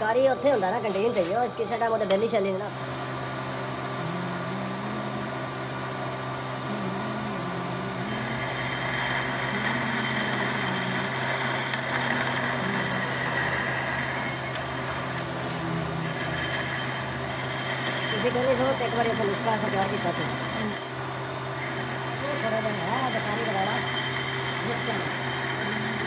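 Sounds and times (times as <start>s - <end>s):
lathe motor hum: 0.0s - 26.0s.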